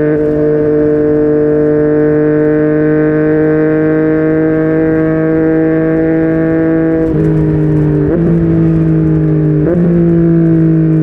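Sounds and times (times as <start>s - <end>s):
motorcycle engine pulling: 0.0s - 11.0s.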